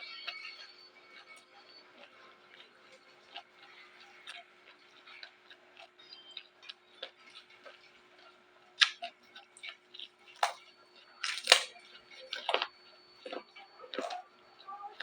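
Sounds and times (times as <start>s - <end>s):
chewing raw vegetables: 0.1s - 15.0s.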